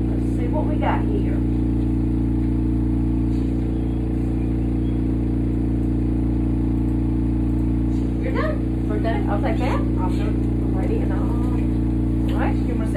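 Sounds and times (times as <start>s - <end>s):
low buzzing equipment hum: 0.0s - 12.9s.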